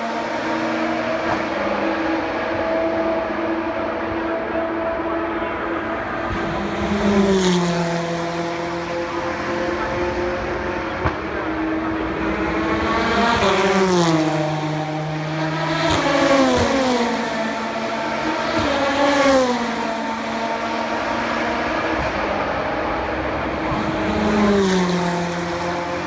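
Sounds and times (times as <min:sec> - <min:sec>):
drone of distant engines: 0:00.0 - 0:26.0
race cars passing at speed: 0:00.0 - 0:26.0.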